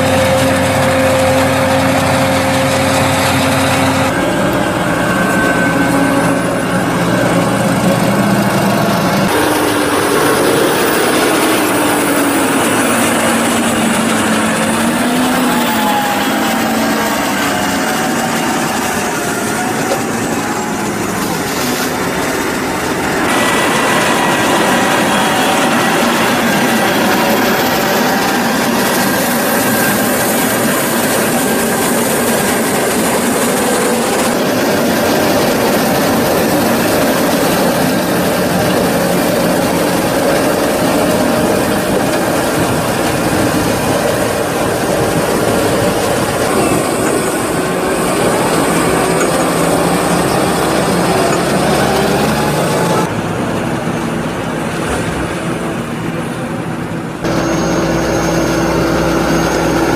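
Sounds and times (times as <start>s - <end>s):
forage wagon unloading clatter: 0.0s - 55.8s
heavy tractor engines: 0.0s - 59.9s.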